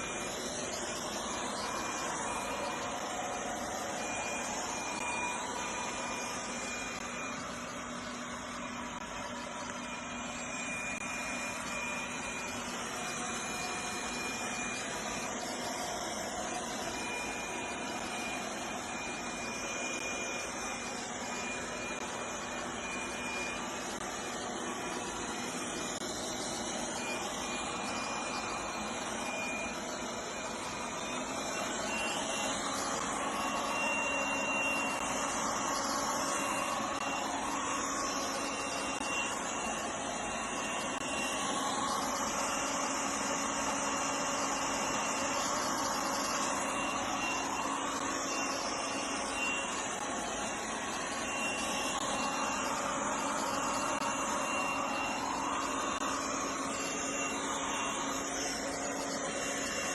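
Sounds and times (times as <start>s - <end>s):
robot vacuum cleaner whirring: 0.0s - 59.9s.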